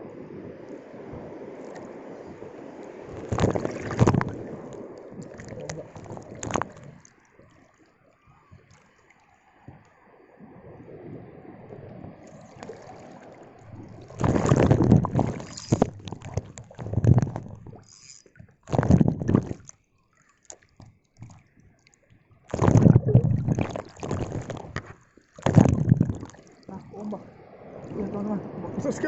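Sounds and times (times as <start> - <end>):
sea waves surging and splashing: 0.0 - 19.7, 22.5 - 29.0.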